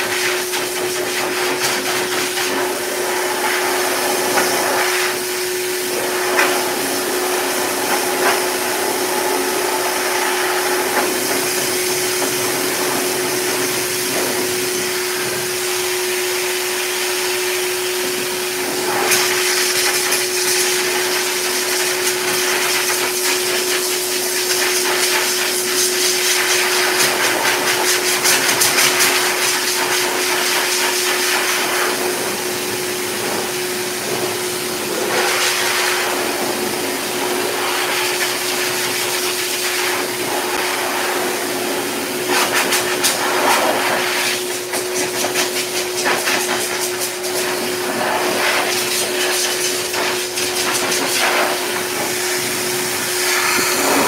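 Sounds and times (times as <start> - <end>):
dog dryer blowing air: 0.0 - 54.0.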